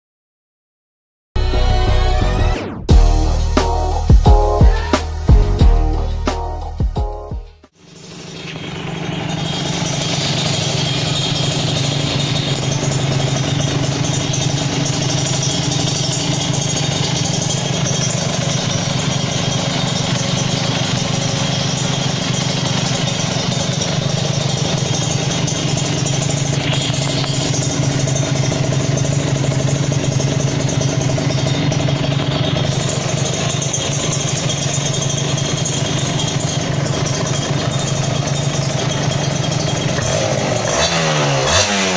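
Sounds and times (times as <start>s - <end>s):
two-stroke engine idling: 7.7s - 41.9s.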